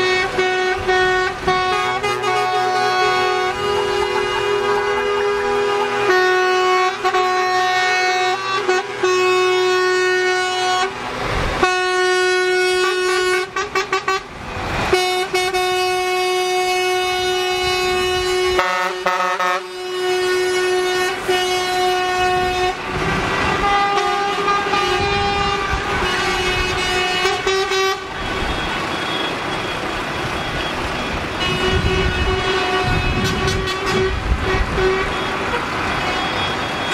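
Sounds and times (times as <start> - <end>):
air horn blasts: 0.0 - 11.0, 11.6 - 14.3, 14.9 - 29.5, 31.4 - 36.9
heavy diesel vehicles rumbling past: 0.0 - 36.9.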